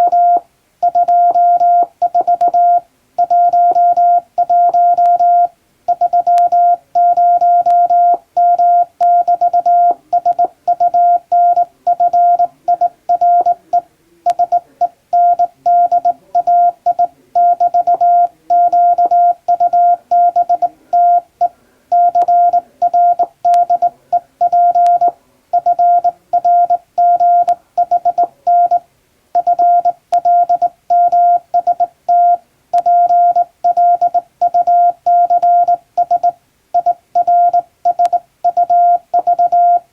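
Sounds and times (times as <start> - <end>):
morse code beeps: 0.0 - 28.8, 29.4 - 39.9.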